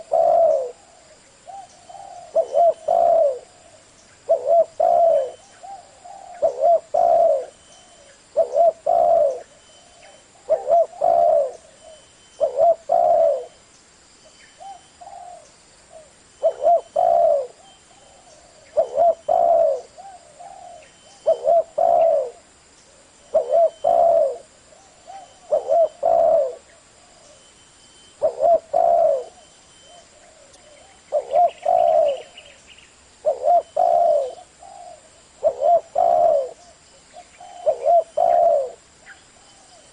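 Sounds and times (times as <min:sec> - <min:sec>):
spotted dove cooing: 0:00.0 - 0:13.6, 0:14.6 - 0:27.5, 0:28.1 - 0:32.6, 0:33.2 - 0:39.9.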